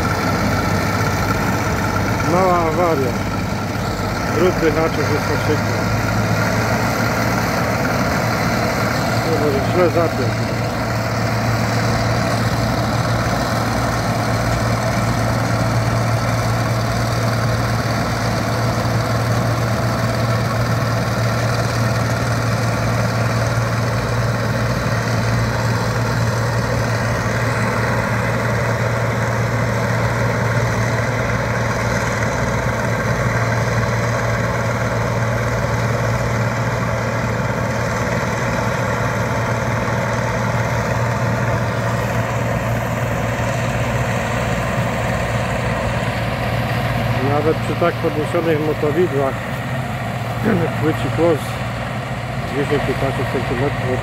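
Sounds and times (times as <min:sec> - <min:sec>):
farm engine droning: 0:00.0 - 0:54.0.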